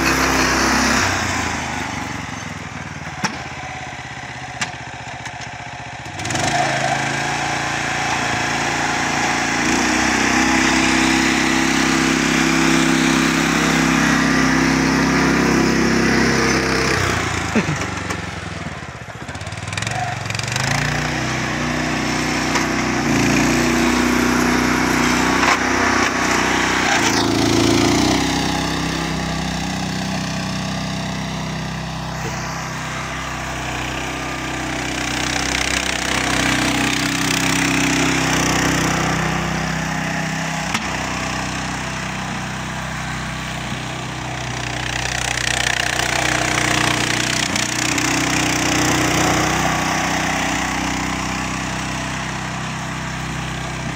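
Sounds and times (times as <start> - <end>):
small tractor engine under load: 0.0 - 53.9.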